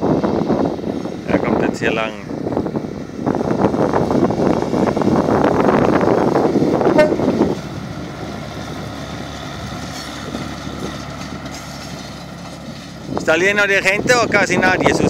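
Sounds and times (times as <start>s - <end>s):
railcar passing rumble: 0.0s - 15.0s.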